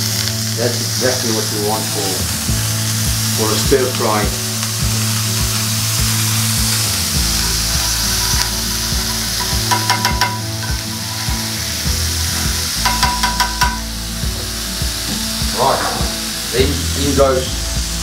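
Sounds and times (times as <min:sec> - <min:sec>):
butter sizzling on griddle: 0:00.0 - 0:18.0.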